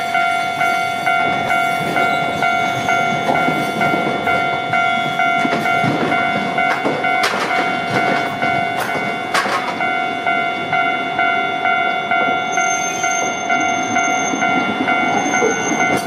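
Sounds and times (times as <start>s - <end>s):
train wheels clattering: 0.0s - 10.4s, 11.7s - 16.0s
level-crossing alarm dinging: 0.0s - 16.0s.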